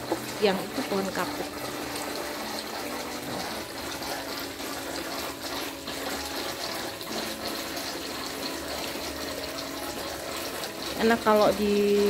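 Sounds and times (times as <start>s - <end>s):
water splashing into pond: 0.0s - 12.0s.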